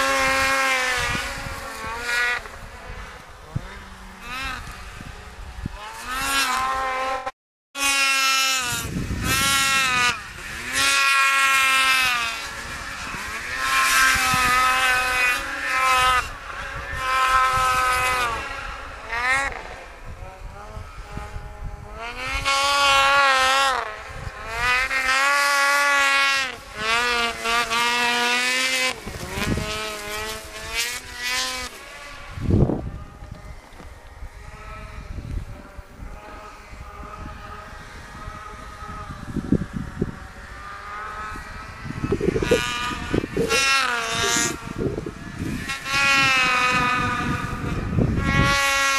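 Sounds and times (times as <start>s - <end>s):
snowmobile engines revving: 0.0s - 48.9s.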